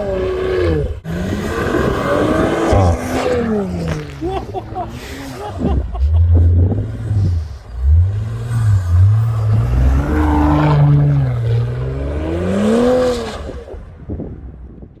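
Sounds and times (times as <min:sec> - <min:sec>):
car engine revving: 0:00.0 - 0:14.6.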